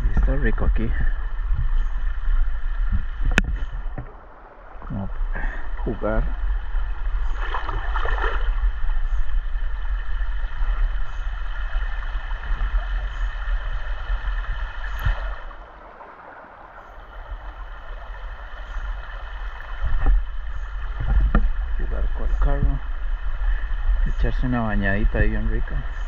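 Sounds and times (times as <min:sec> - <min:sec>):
creek running over stones: 0:00.0 - 0:26.0
low microphone rumble: 0:00.0 - 0:26.0.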